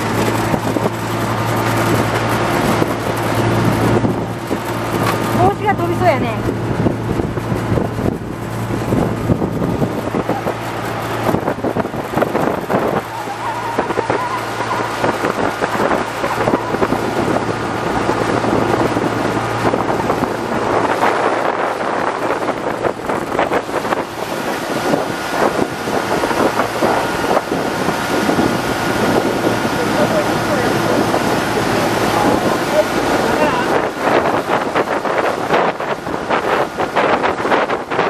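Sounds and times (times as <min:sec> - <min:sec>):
boat engine running: 0:00.0 - 0:38.0
water rushing along hull: 0:00.0 - 0:38.0
wind buffeting microphone: 0:00.0 - 0:38.0.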